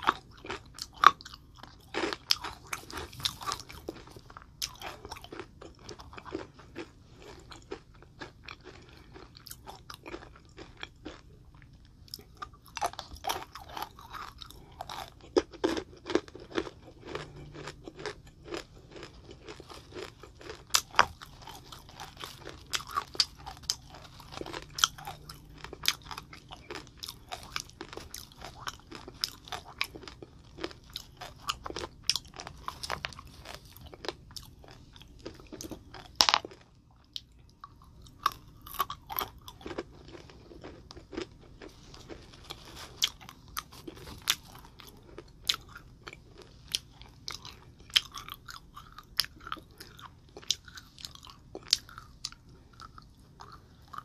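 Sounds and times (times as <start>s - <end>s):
chewing marshmallows crunching: 0.0s - 54.0s.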